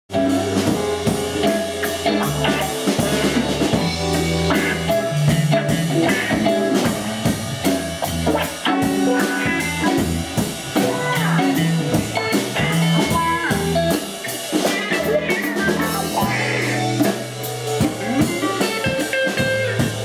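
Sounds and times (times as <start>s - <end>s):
bass line: 0.1s - 20.0s
drum kit steady beat: 0.1s - 20.0s
guitar: 0.1s - 20.0s.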